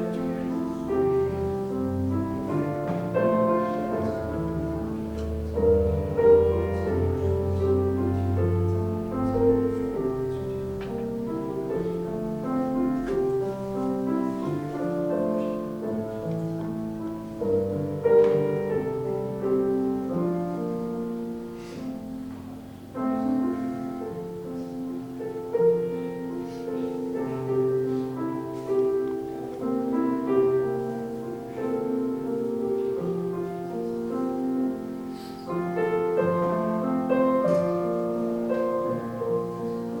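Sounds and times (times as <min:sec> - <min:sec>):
solo piano music: 0:00.0 - 0:40.0.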